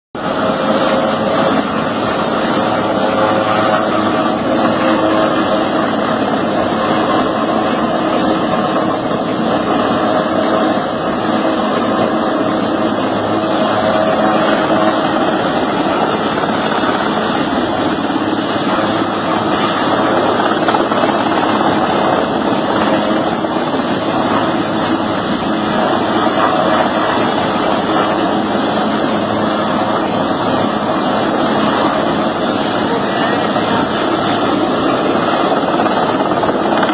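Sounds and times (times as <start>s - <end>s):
helicopter engine and rotor noise: 0.2s - 36.9s.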